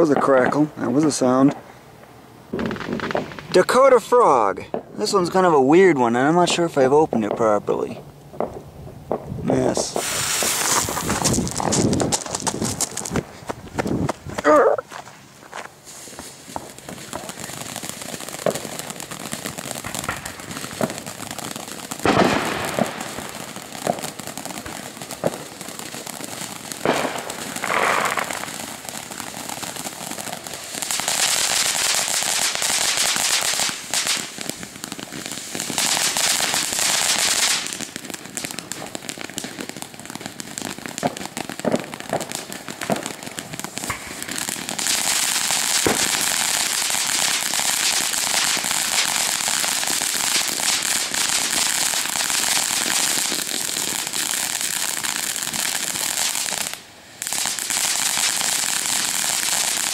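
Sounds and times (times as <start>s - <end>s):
firework cracks and pops: 0.0s - 1.7s, 2.5s - 59.9s
firework fountain hissing: 9.5s - 13.6s, 14.9s - 59.9s.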